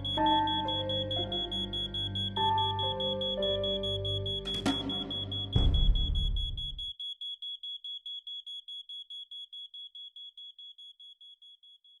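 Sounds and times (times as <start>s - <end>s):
smoke alarm beeping: 0.0s - 12.0s.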